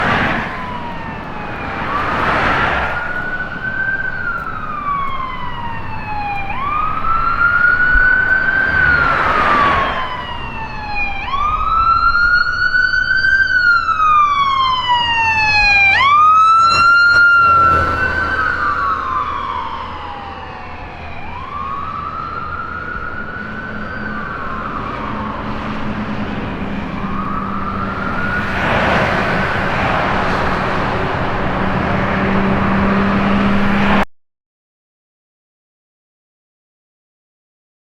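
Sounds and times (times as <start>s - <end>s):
ambulance siren wailing: 0.0s - 34.0s
vehicle on the road: 0.0s - 34.1s.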